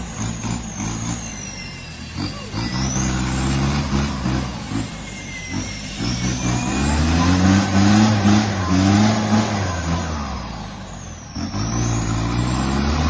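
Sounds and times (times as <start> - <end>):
low engine-like drone: 0.0 - 13.0
toy truck motor whining: 0.0 - 13.0.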